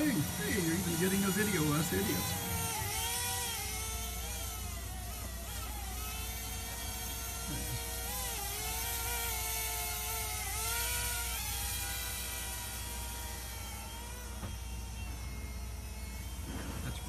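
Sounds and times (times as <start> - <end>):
quadcopter propellers whining: 0.0 - 17.0.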